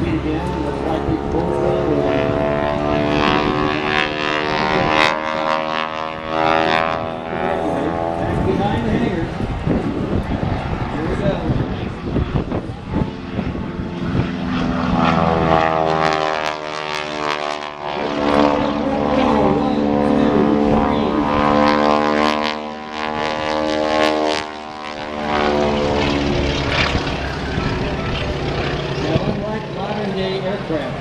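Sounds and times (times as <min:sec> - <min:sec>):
propeller plane engine droning: 0:00.0 - 0:31.0.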